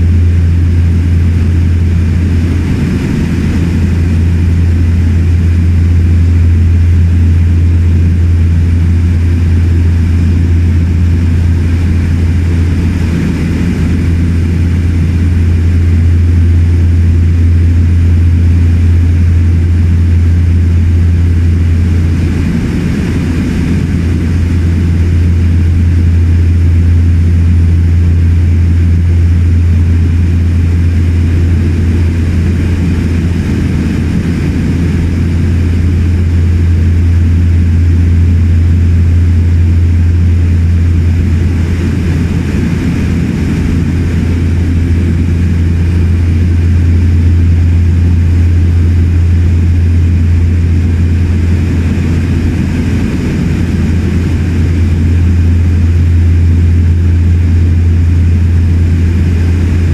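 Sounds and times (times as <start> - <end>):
turboprop aircraft cabin drone: 0.0 - 59.9.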